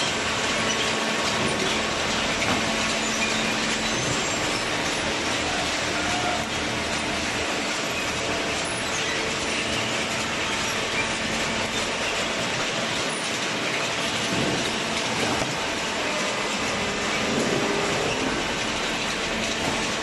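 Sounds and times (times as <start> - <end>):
baler mechanical clatter: 0.0 - 20.0.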